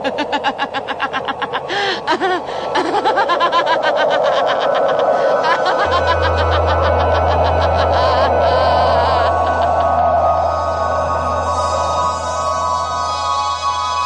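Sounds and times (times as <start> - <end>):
person laughing in pulses: 0.0 - 11.5
low steady drone: 0.0 - 14.0.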